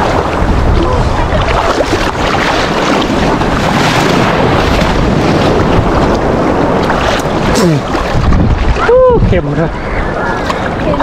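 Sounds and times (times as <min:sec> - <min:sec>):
water sloshing and splashing: 0:00.0 - 0:11.0
wind buffeting microphone: 0:00.0 - 0:11.0.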